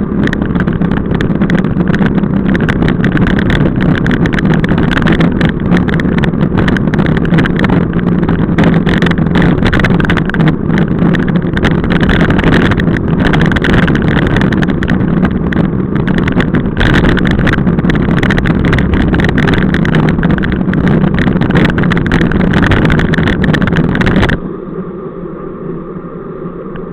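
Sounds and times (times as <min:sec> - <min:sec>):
wind rushing on microphone: 0:00.0 - 0:24.6
bicycle tyre noise: 0:00.0 - 0:24.8.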